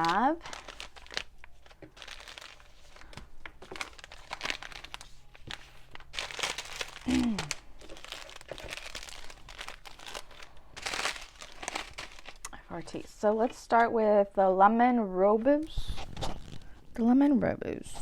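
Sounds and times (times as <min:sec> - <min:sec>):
packaging crinkling and rustling: 0:00.0 - 0:13.6, 0:15.9 - 0:16.8.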